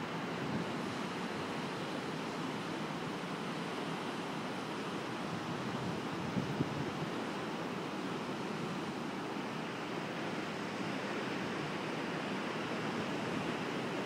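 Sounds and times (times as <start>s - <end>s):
distant ocean surf breaking: 0.0s - 14.0s.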